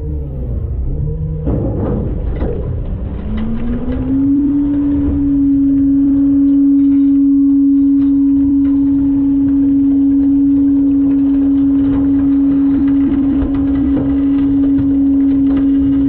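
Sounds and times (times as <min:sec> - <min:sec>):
garbage truck hydraulic whine: 0:00.0 - 0:16.0.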